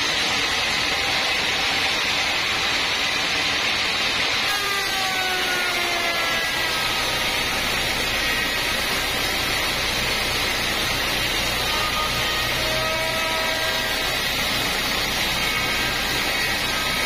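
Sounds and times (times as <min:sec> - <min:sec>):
band sawmill cutting log: 0:00.0 - 0:17.0.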